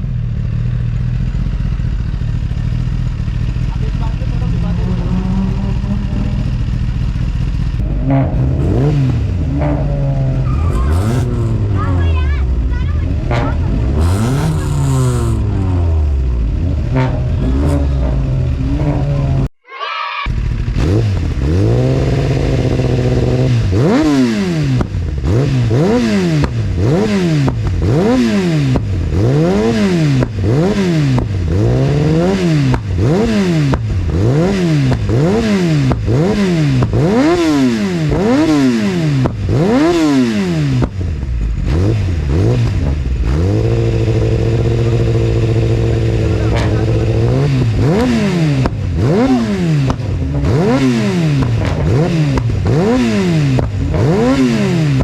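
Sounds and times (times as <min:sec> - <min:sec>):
exhaust pops and backfires: 0:00.0 - 0:19.6, 0:20.3 - 0:55.0
motorcycle engine revving: 0:00.0 - 0:19.6, 0:20.3 - 0:55.0.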